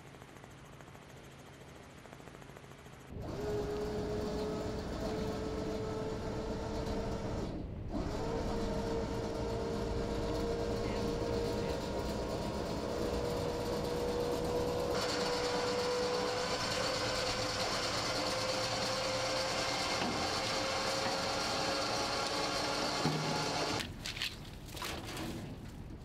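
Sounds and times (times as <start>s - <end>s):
boat machinery droning hum: 3.1s - 26.0s.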